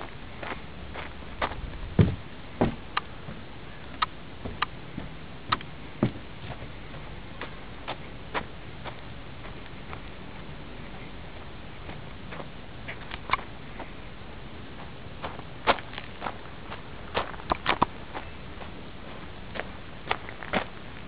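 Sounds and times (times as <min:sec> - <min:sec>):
footsteps walking: 0:00.0 - 0:20.8.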